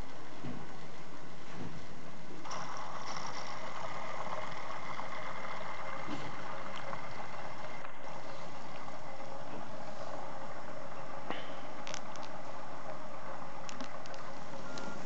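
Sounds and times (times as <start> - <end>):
engine mechanical whirr: 0.0 - 15.0.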